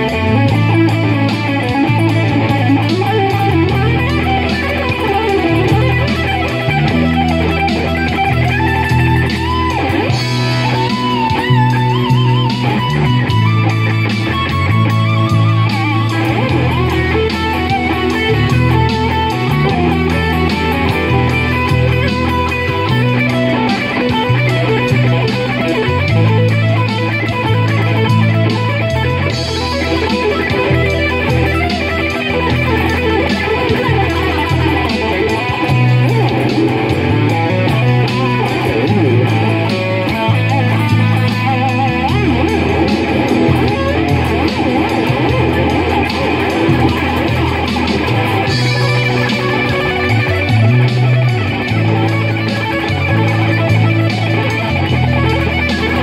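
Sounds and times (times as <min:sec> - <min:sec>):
backing track bass line: 0:00.0 - 0:56.0
electric guitar blues lead: 0:00.0 - 0:56.0.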